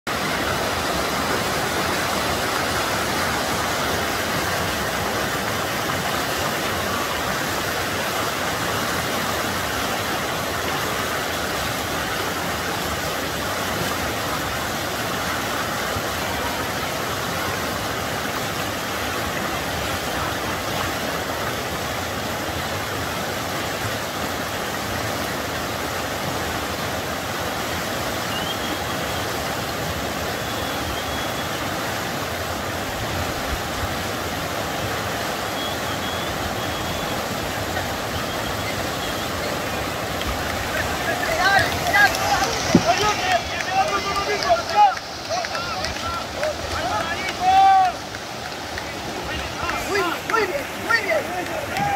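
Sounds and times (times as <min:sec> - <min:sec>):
river rushing over rapids: 0:00.1 - 0:51.9.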